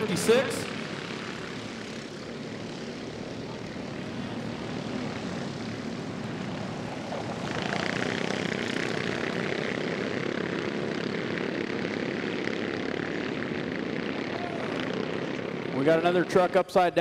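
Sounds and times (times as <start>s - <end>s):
race kart engines buzzing: 0.0s - 17.0s.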